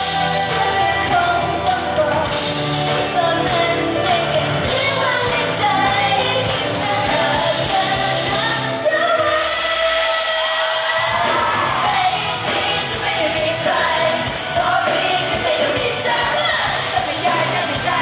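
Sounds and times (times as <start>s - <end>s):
band accompaniment: 0.0s - 18.0s
women singing: 0.0s - 18.0s.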